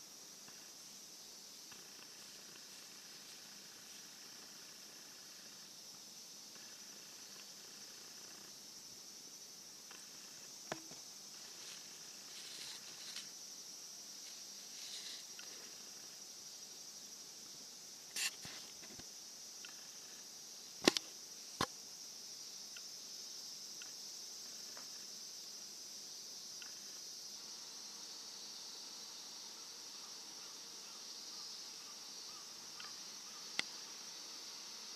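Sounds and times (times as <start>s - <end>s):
cicadas droning: 0.0s - 34.9s.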